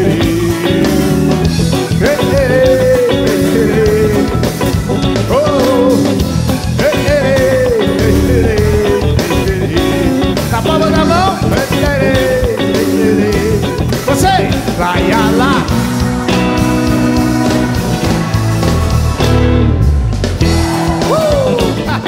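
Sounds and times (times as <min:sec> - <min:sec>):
electric guitar lead melody: 0:00.0 - 0:22.0
live band playing: 0:00.0 - 0:22.0.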